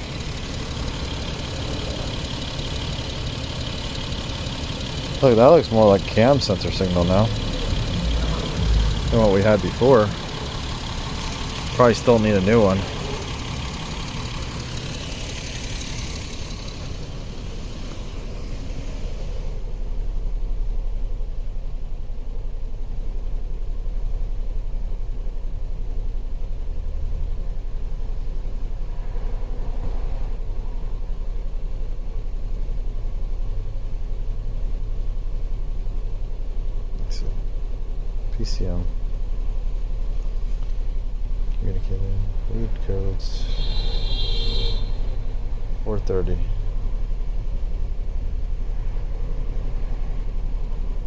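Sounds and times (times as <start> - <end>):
car engine idling with misfire: 0.0 - 51.0.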